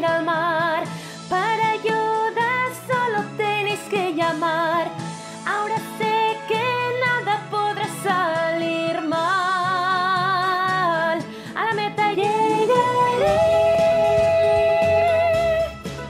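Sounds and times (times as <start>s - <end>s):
bass: 0.0s - 16.0s
instrumental backing: 0.0s - 16.0s.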